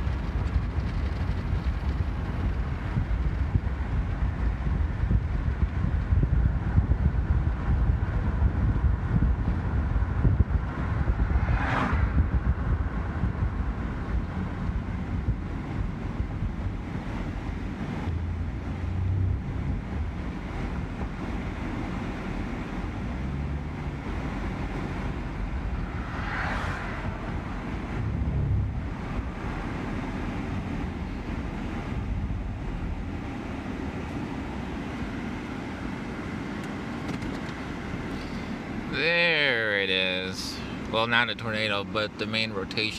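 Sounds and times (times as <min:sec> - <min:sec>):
wind buffeting microphone: 0:00.0 - 0:35.3
vehicle rumble: 0:00.0 - 0:42.9.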